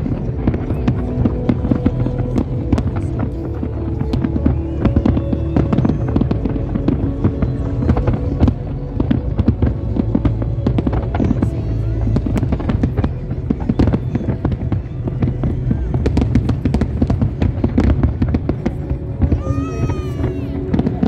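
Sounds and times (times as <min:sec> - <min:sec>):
fireworks crackle: 0:00.0 - 0:21.0
steady low rumble: 0:00.0 - 0:21.0.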